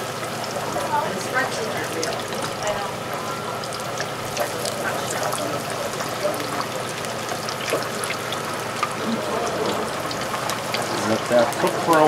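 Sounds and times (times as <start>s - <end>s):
oil sizzling and popping: 0.0s - 12.0s.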